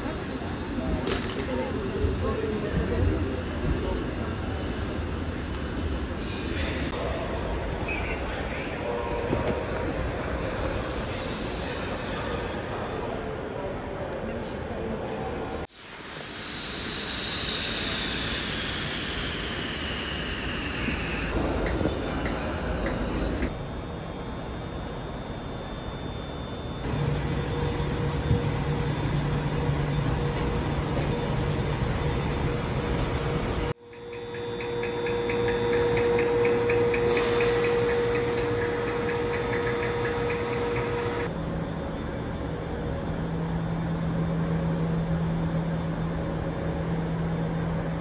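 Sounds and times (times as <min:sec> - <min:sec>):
train machinery hum: 0:00.0 - 0:48.0.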